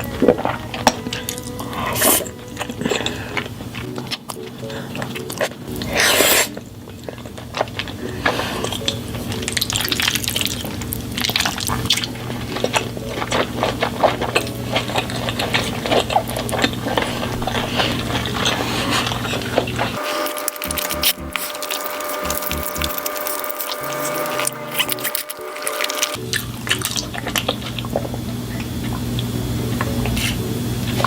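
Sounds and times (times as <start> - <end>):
low hum: 0.0 - 31.0
wet mouth eating sounds: 0.0 - 31.0.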